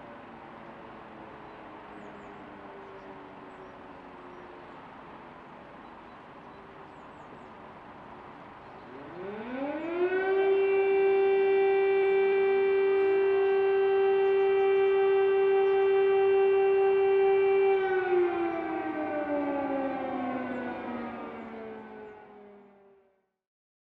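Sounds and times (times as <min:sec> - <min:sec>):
air raid siren wailing: 0:00.0 - 0:23.2.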